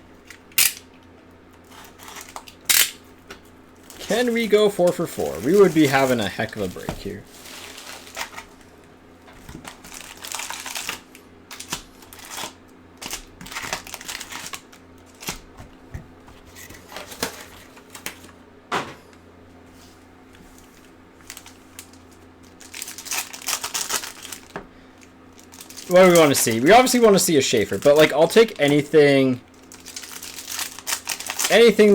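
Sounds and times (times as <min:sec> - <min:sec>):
faint steady hum: 0:00.0 - 0:31.9
wrappers and cardboard rustling: 0:01.6 - 0:02.6, 0:03.4 - 0:18.3, 0:19.7 - 0:31.9.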